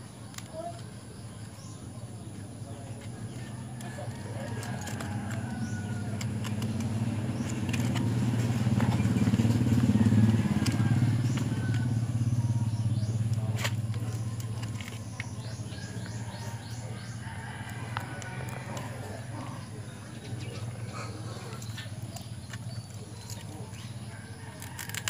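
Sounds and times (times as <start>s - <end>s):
vehicle passing by: 3.5s - 24.8s.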